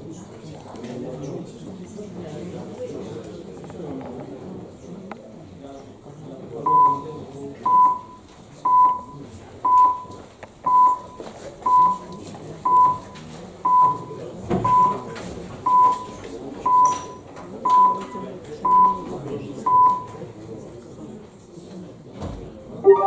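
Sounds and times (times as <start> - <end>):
murmur of room: 0.0 - 23.0.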